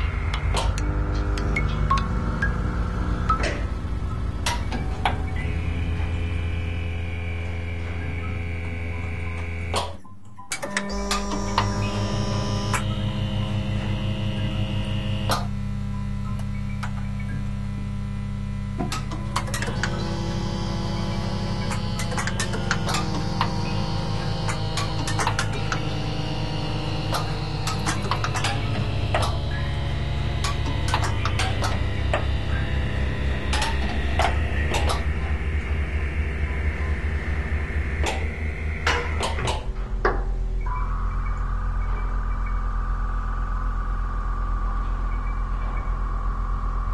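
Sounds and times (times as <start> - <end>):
low pulsing drone: 0.0 - 10.0, 10.6 - 46.9
electrical mains hum: 0.0 - 46.9.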